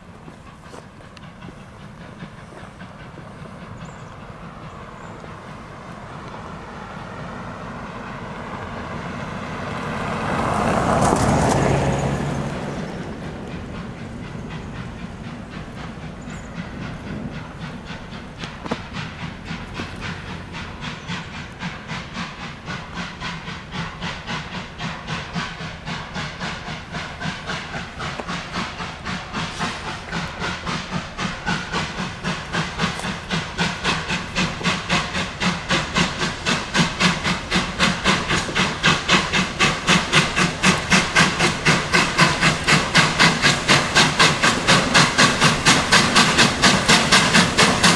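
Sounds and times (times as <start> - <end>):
steam locomotive chuffing: 0.0 - 47.9.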